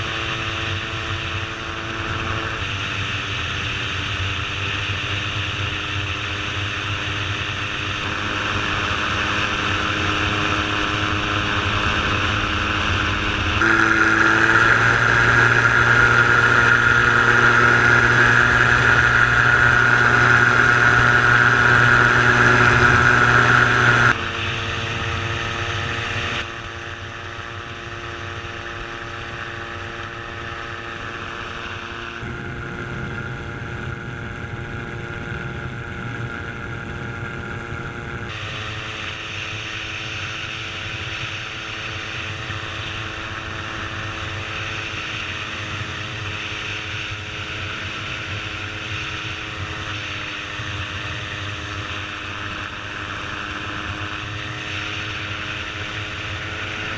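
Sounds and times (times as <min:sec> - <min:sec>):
gyroplane engine and propeller: 0:00.0 - 0:56.9.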